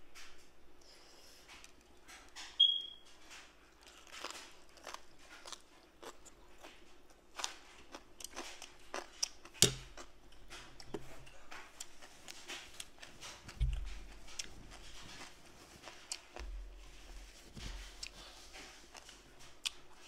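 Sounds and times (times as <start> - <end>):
chewing and crunching food: 0.1 - 20.0.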